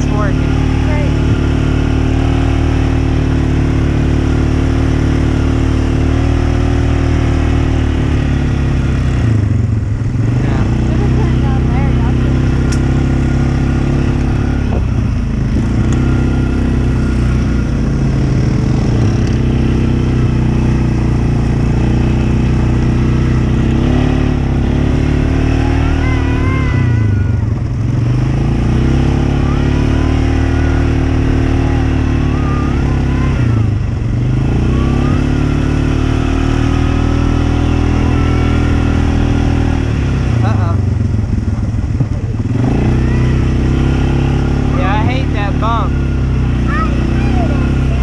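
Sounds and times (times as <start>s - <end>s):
off-road vehicle engine: 0.0s - 48.0s.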